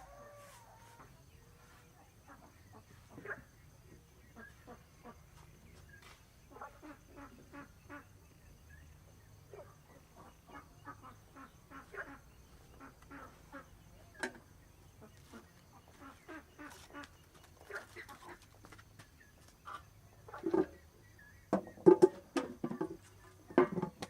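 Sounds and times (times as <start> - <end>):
ducks calling faintly: 0.0 - 8.6, 9.5 - 21.4.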